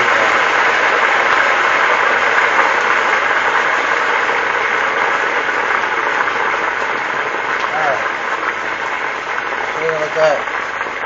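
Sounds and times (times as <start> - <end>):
food sizzling in frying grease: 0.0 - 11.0.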